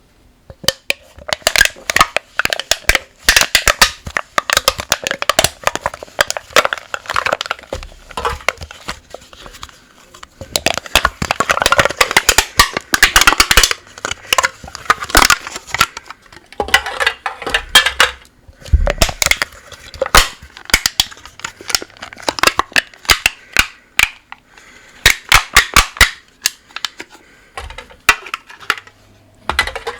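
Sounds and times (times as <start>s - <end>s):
drink can being crushed: 0.7s - 28.9s.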